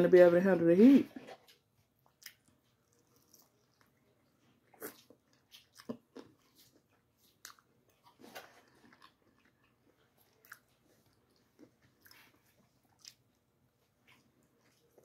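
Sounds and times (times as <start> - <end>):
chewing chicken wing: 2.0 - 15.0.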